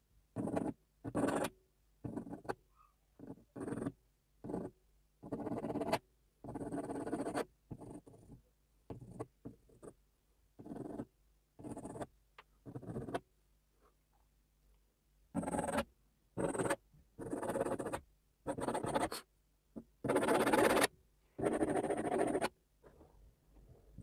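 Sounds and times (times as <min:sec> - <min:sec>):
pencil scratching on paper: 0:00.4 - 0:10.0, 0:10.6 - 0:13.2, 0:15.4 - 0:22.5.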